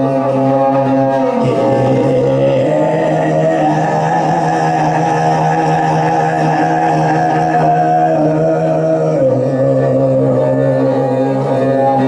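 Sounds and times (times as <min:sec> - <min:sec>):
throat singing drone: 0:00.0 - 0:12.0.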